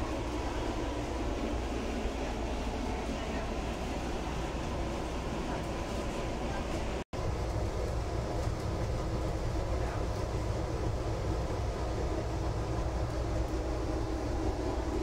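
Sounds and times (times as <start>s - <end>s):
train interior rumble and hum: 0.0s - 15.0s.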